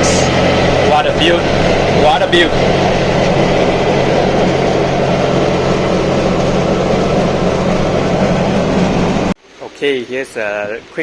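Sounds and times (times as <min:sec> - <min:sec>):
car engine running steadily: 0:00.0 - 0:09.4
road and wind noise: 0:00.0 - 0:09.4.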